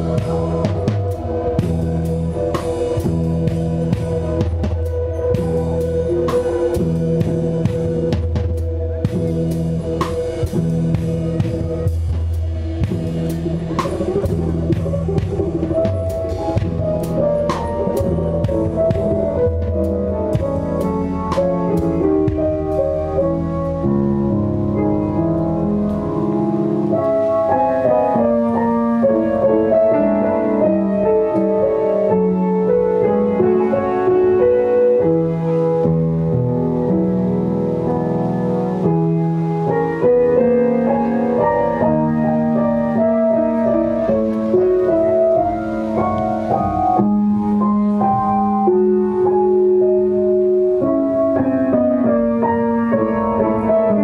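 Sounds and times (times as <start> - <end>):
keyboard melody: 0.0 - 54.0
low bass line: 0.0 - 54.0.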